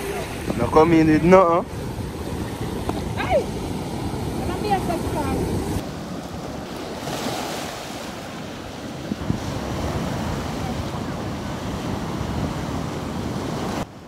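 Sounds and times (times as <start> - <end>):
surf on pebble beach: 0.0 - 14.0
wind buffeting microphone: 0.0 - 14.0.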